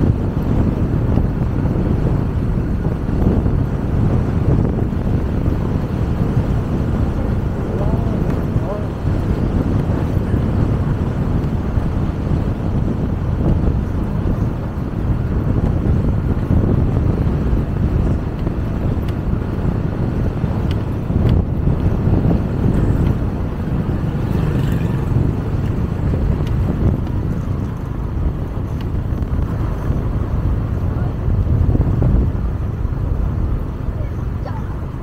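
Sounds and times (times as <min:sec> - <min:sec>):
motorcycle engine rumbling: 0:00.0 - 0:35.0
road and wind noise: 0:00.0 - 0:35.0.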